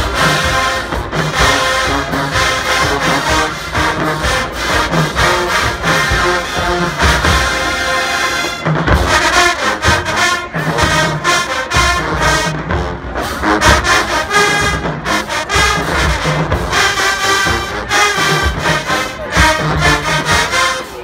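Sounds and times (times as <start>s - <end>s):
marching band brass: 0.0s - 21.0s.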